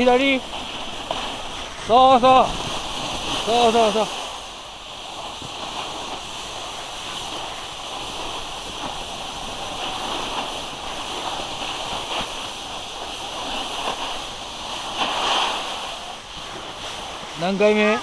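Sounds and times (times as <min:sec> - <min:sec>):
wind rushing: 0:00.0 - 0:17.3
skis sliding on snow: 0:00.0 - 0:18.0.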